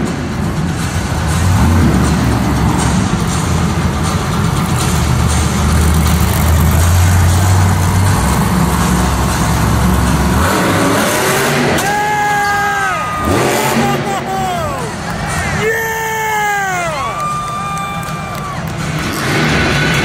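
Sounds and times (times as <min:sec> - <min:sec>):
truck engine revving loud: 0:00.0 - 0:15.6, 0:18.6 - 0:20.0.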